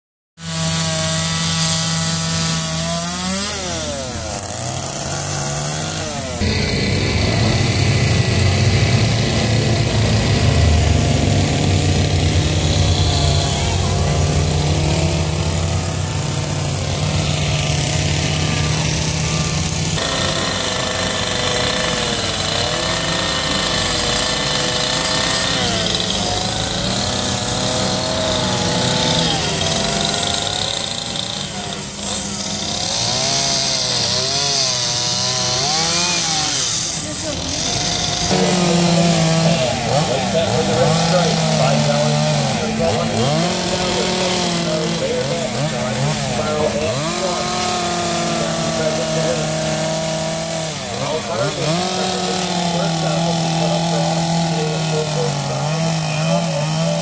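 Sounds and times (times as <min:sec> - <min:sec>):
chainsaws cutting logs: 0:00.4 - 0:57.0.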